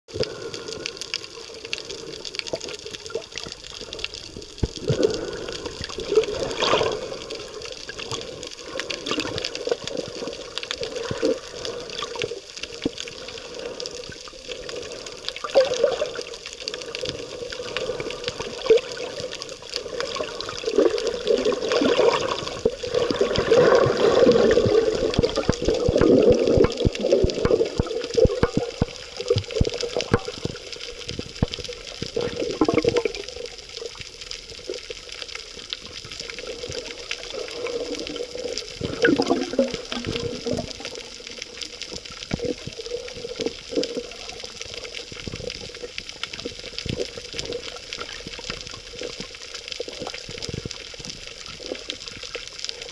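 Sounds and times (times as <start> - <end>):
small underwater clicks and crackles: 0.1 - 52.9
underwater moving water and bubbling: 0.1 - 52.9.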